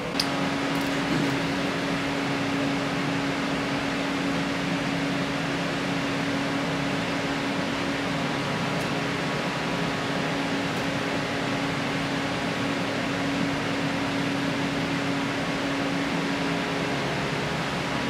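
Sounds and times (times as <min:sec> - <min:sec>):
fan humming and hissing: 0:00.0 - 0:18.0.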